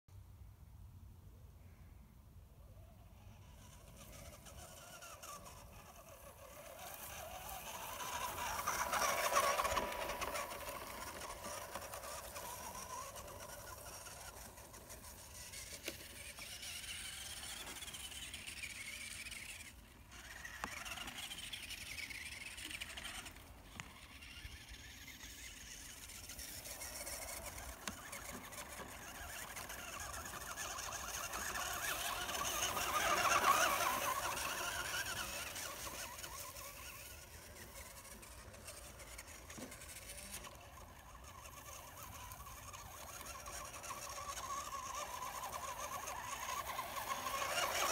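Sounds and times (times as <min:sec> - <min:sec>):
toy truck electric motor whining: 0:02.7 - 0:47.9.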